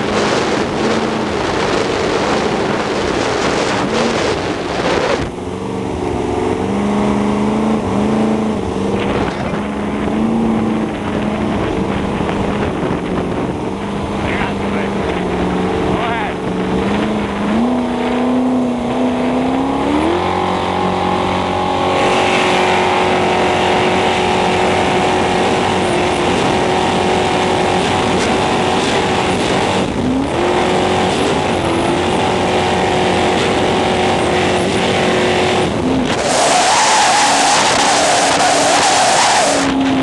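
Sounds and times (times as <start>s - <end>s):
motorboat engine droning: 0.0s - 40.0s.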